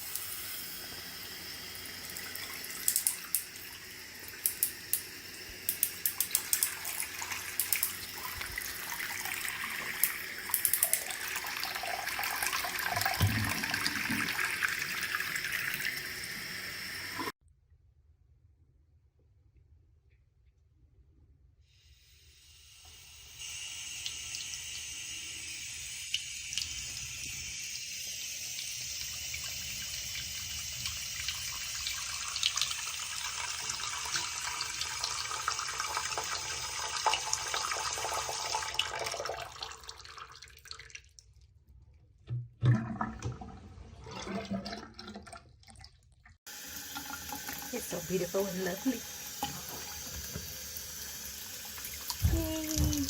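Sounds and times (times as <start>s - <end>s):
faucet water running into sink: 0.0s - 17.4s, 22.0s - 41.2s, 42.6s - 53.0s.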